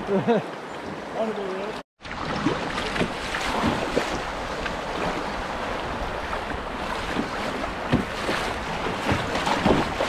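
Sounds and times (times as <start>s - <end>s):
water splashing against hull: 0.5s - 10.0s.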